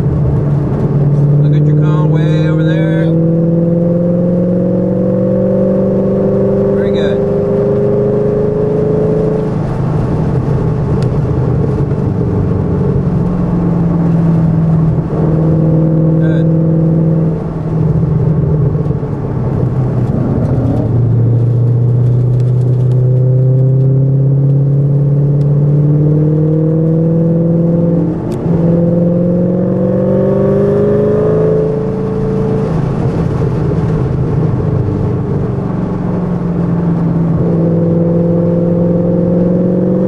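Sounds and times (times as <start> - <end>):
car engine revving under load: 0.0 - 40.0.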